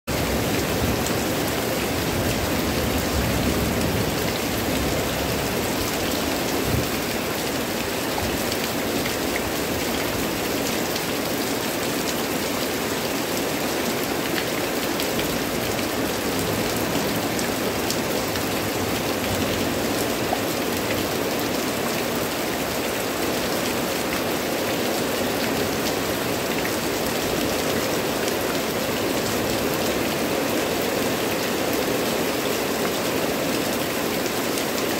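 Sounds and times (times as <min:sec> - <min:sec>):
heavy rain on leaves: 0:00.1 - 0:34.9.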